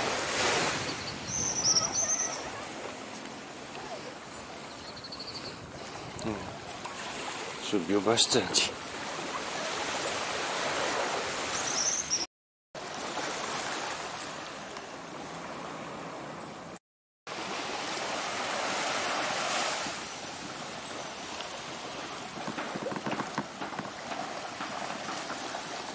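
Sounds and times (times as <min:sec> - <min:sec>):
small waves on sandy beach: 0:00.0 - 0:12.2, 0:12.8 - 0:25.9.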